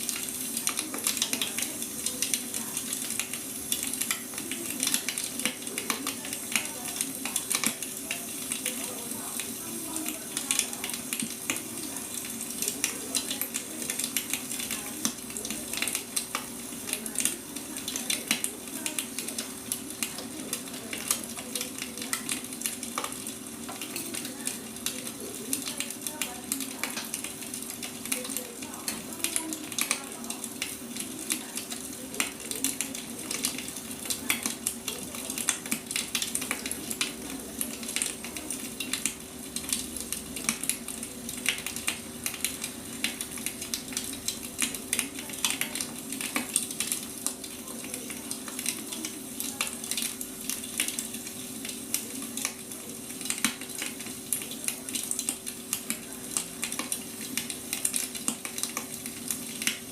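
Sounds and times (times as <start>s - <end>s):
firewood crackling and popping: 0.0s - 9.0s, 10.0s - 59.9s.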